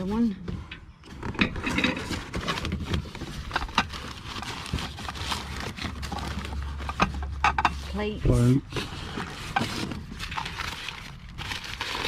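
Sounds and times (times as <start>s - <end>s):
paper crinkling and rustling: 1.1s - 12.0s.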